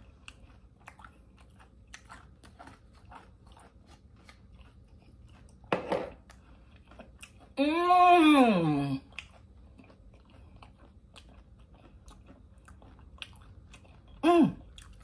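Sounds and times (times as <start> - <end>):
chewing with wet mouth clicks: 0.0 - 7.6, 9.0 - 15.0.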